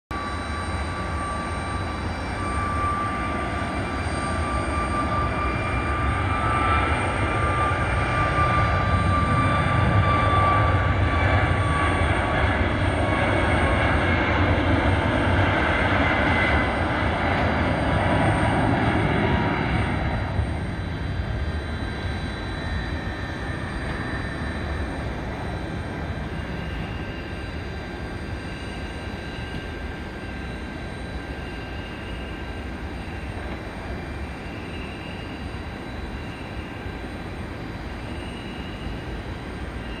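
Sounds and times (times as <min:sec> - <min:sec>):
faint high turbine whine: 0:00.1 - 0:40.0
jet engine roar: 0:00.1 - 0:40.0.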